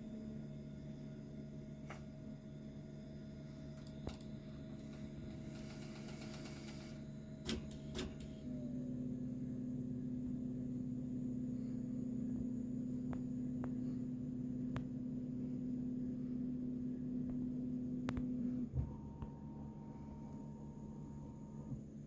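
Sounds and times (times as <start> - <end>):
printer motor hum: 0.0 - 22.0.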